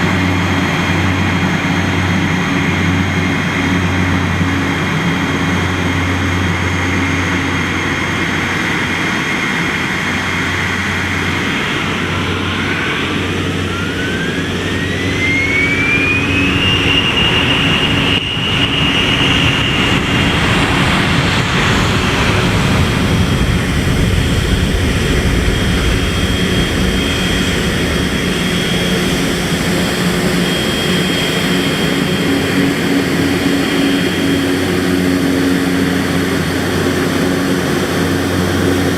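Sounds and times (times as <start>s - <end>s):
turbine whine rising in pitch: 0.0s - 38.9s
turboprop engines running: 0.0s - 38.9s.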